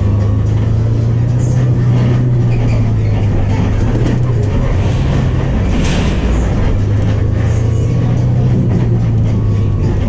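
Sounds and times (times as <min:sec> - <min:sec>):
bus engine droning: 0:00.0 - 0:10.0.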